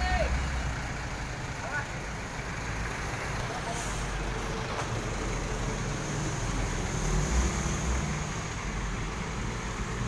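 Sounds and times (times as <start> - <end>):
tow truck engine running: 0.0 - 10.0.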